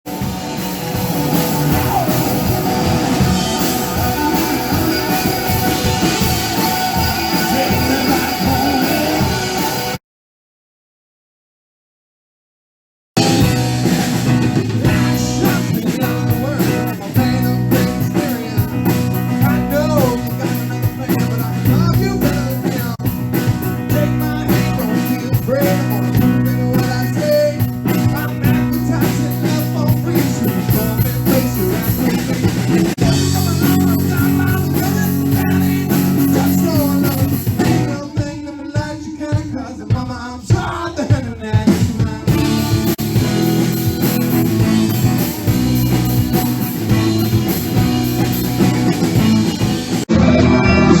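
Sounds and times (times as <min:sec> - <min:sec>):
drum kit: 0:00.0 - 0:10.0, 0:13.2 - 0:51.0
live rock band playing: 0:00.0 - 0:10.0, 0:13.2 - 0:38.4, 0:41.4 - 0:51.0
electric guitar: 0:00.1 - 0:10.0, 0:13.2 - 0:38.2, 0:42.1 - 0:51.0.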